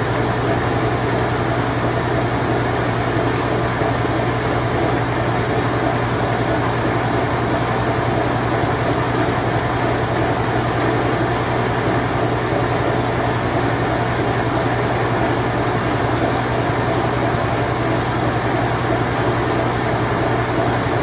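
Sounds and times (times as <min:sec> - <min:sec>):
washing machine spin cycle: 0:00.0 - 0:21.0.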